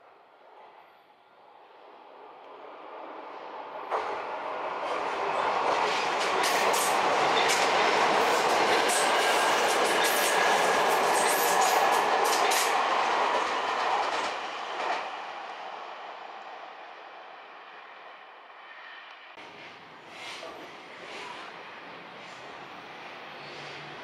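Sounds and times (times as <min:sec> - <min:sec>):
electric train passing: 0:00.4 - 0:24.0.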